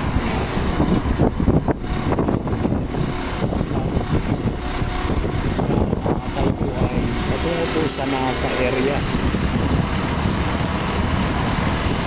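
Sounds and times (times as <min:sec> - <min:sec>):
vehicle road and engine noise: 0:00.0 - 0:12.0
wind buffeting microphone: 0:00.0 - 0:12.0.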